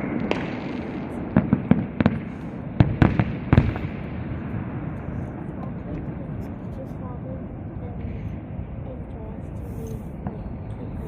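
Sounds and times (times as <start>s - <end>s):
fireworks bangs and cracks: 0.0s - 11.0s
steady background rumble: 0.1s - 11.0s.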